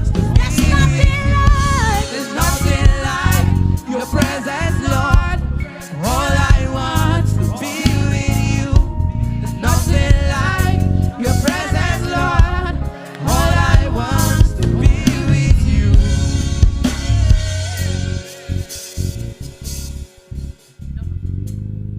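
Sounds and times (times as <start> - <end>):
person singing: 0.0 - 18.4
live band playing: 0.0 - 21.1.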